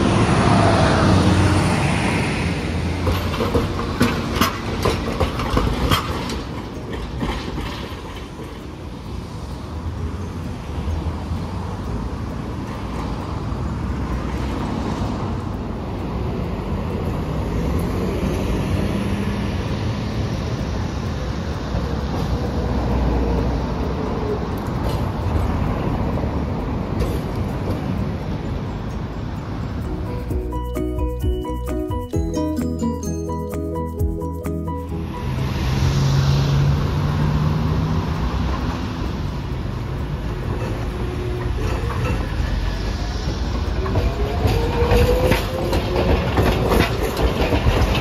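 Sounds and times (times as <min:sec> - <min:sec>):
tram wheels clacking over track: 0:00.0 - 0:32.8, 0:34.8 - 0:48.0
bus passing: 0:00.0 - 0:48.0
street traffic: 0:00.0 - 0:48.0.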